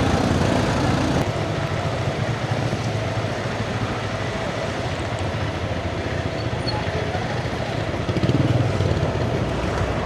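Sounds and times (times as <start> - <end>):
motorcycle engine at low speed: 0.0 - 6.4, 7.0 - 10.0.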